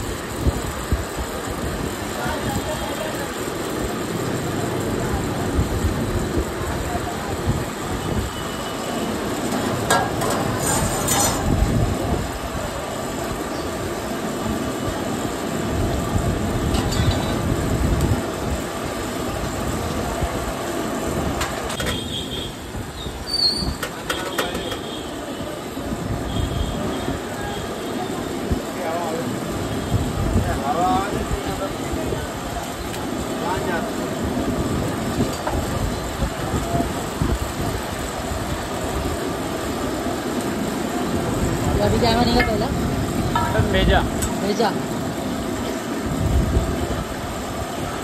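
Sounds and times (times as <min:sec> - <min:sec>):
busy kitchen roar: 0:00.0 - 0:48.0
low rumble and hiss of cooking: 0:00.0 - 0:48.0
oil sizzling on griddle: 0:00.0 - 0:48.0.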